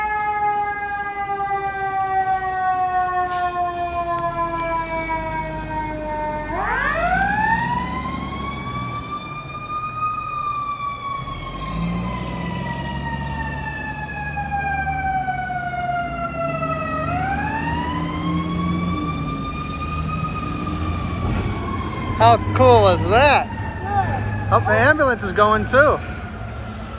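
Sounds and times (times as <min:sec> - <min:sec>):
fire engine siren wailing: 0:00.0 - 0:26.9
truck engine rumble: 0:00.0 - 0:26.9.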